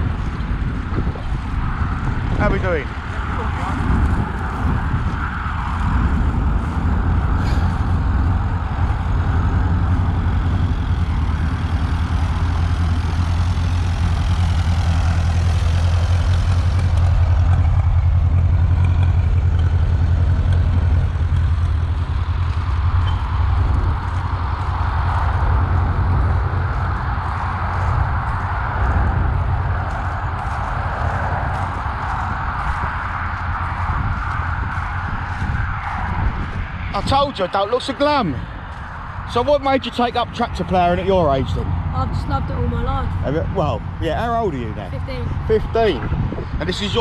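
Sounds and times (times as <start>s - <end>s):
tractor engine running: 0.0s - 47.0s.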